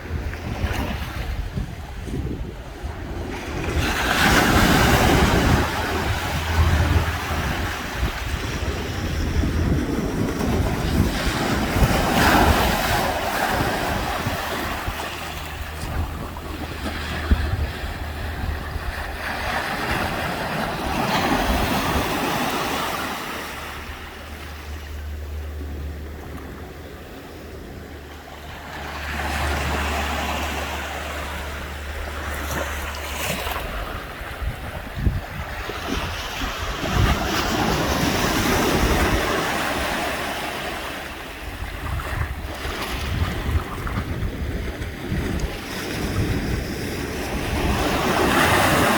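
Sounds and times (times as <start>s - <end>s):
ocean surf washing ashore: 0.0s - 48.9s
wind rumbling on microphone: 0.0s - 48.9s.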